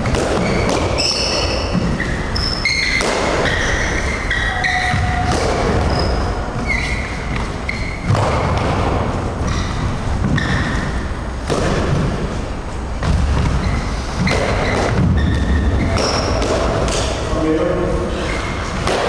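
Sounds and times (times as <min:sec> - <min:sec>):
sneaker squeaks: 0:00.0 - 0:11.3, 0:12.8 - 0:17.3, 0:18.1 - 0:19.0.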